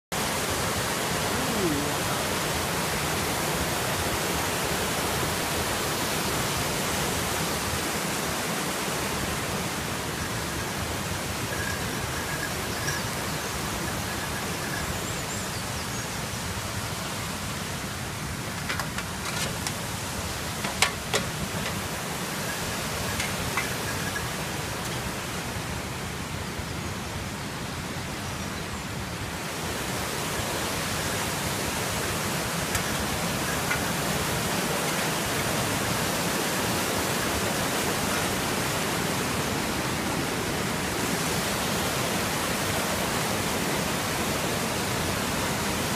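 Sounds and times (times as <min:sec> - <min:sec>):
river water rushing: 0:00.1 - 0:45.9.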